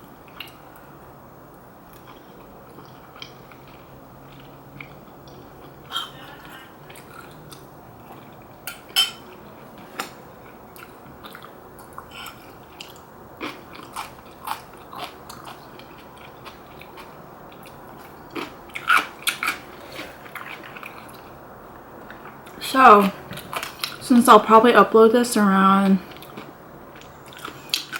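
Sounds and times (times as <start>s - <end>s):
person chewing with wet clicks: 0.2s - 0.9s, 1.5s - 21.4s, 22.0s - 22.6s, 23.3s - 24.0s, 26.0s - 27.9s.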